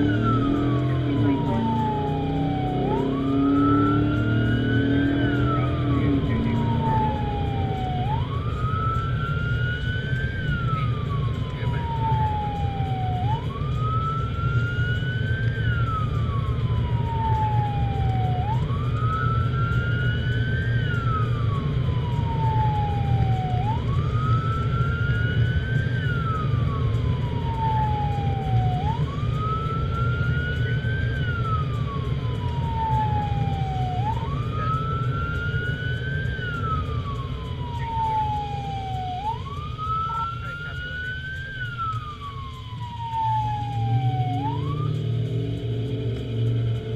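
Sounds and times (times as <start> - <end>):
emergency siren wailing: 0.0 - 46.9
road and engine rumble: 0.0 - 46.9.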